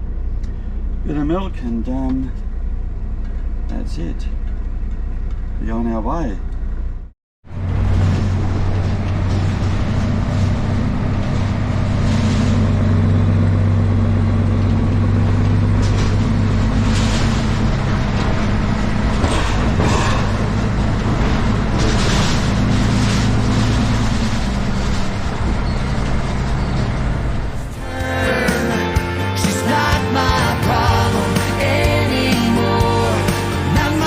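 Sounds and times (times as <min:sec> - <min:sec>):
road and wind noise: 0:00.0 - 0:27.9
truck diesel engine droning: 0:00.0 - 0:34.0.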